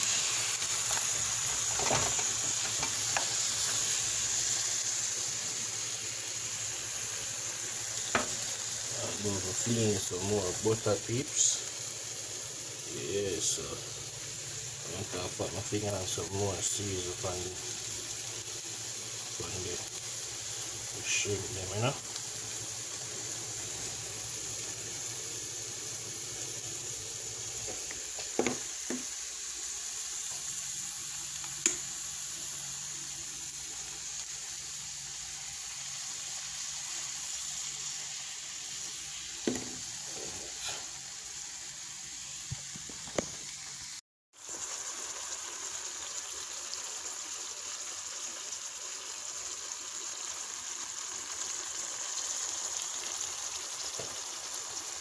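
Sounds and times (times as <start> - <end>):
shrimp sizzling in butter: 0.0 - 55.0.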